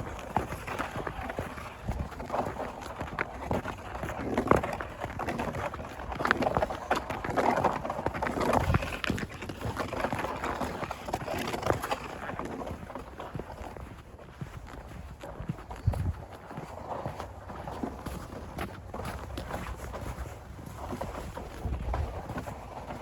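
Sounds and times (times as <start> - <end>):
footsteps crunching through snow: 0.0 - 23.0.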